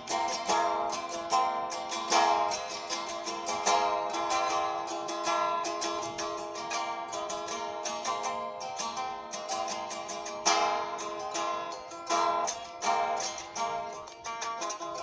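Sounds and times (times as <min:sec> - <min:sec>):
guitar being picked: 0:00.0 - 0:15.0.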